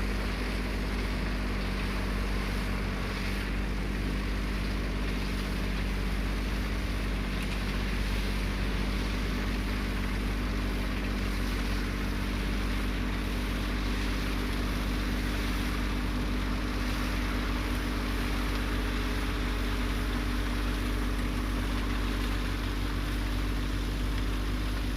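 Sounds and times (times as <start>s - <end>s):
diesel engines droning: 0.0s - 24.9s.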